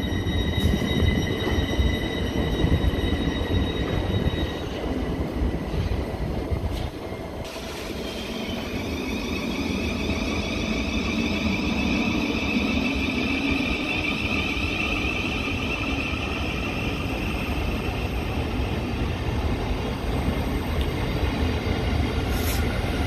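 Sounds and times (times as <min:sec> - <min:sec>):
train electric whine: 0:00.0 - 0:23.0
train rolling rumble: 0:00.0 - 0:23.0.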